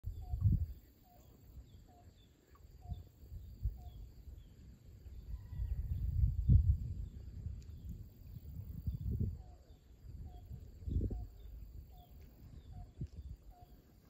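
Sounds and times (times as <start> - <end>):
wind on microphone: 0.0 - 0.9, 2.8 - 13.8.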